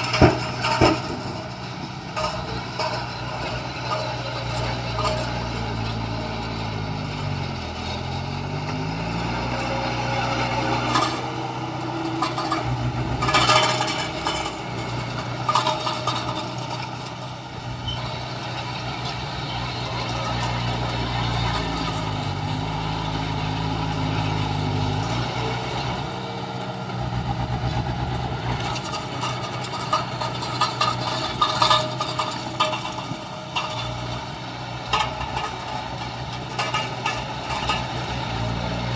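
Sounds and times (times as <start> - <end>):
heavy diesel engine revving: 0.0 - 38.9
metal clanks and knocks: 0.0 - 38.9.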